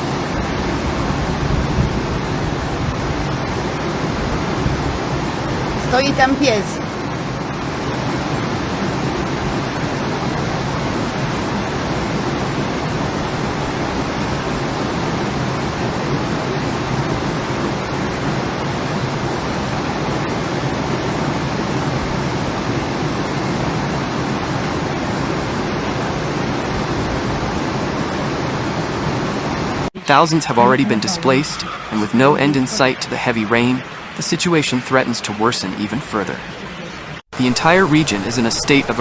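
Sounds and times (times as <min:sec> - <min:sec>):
floodwater rushing: 0:00.0 - 0:37.2.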